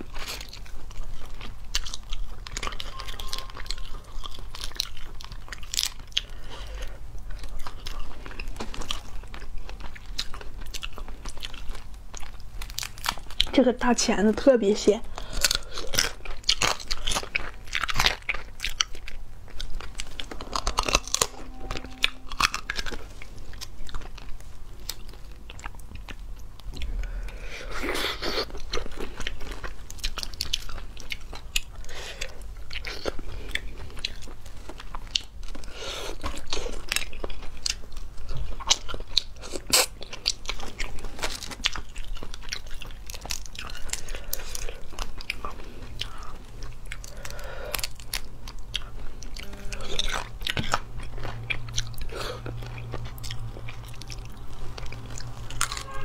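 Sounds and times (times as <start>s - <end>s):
crunchy biting and chewing: 0.0s - 13.6s, 15.1s - 56.0s.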